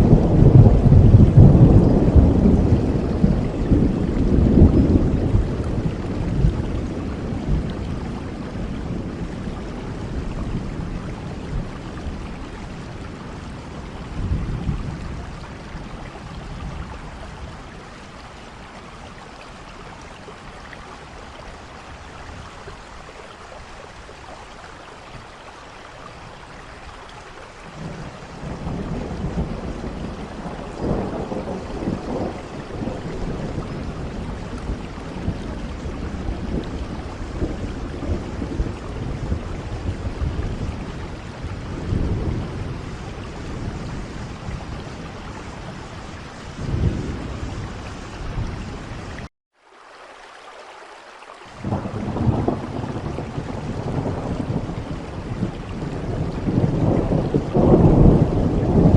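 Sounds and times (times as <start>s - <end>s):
low thunder rumble: 0.0s - 18.4s, 27.7s - 49.3s, 51.6s - 58.9s
rain falling: 0.0s - 58.9s.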